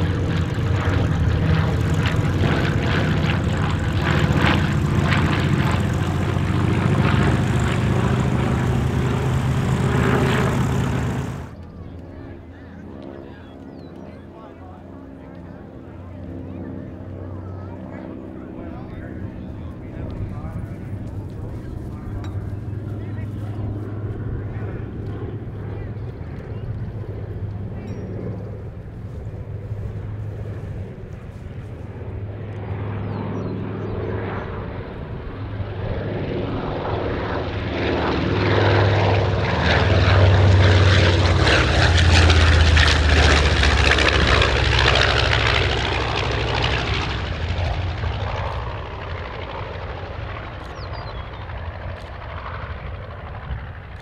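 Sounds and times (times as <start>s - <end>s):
propeller plane engines droning: 0.0s - 54.0s.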